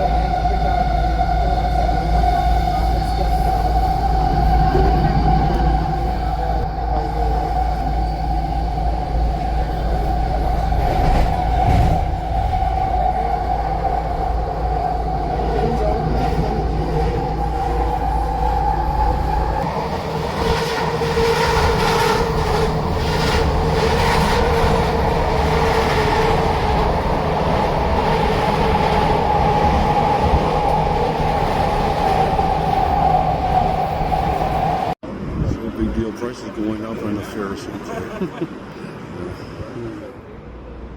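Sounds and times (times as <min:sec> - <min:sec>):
train steady pitched tone: 0:00.0 - 0:35.2
train low rumble: 0:00.0 - 0:40.9.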